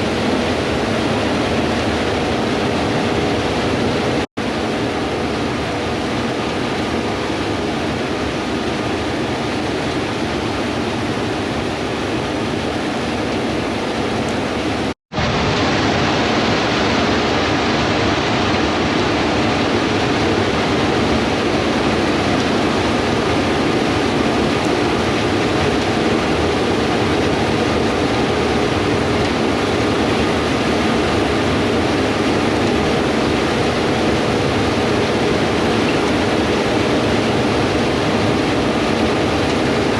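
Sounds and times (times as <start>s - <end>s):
combine harvesters droning: 0.0s - 39.9s.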